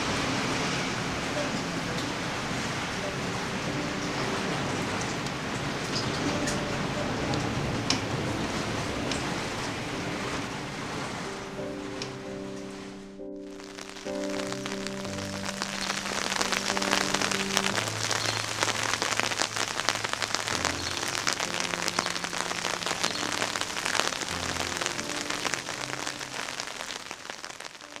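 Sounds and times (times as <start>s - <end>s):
soft held music chords: 0.0s - 26.6s
steady rain patter: 0.0s - 28.0s.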